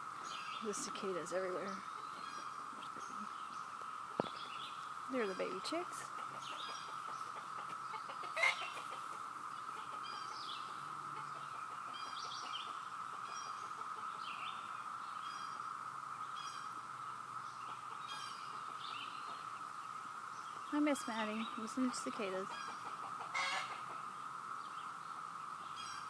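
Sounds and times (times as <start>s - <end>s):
cicadas droning: 0.0s - 26.0s.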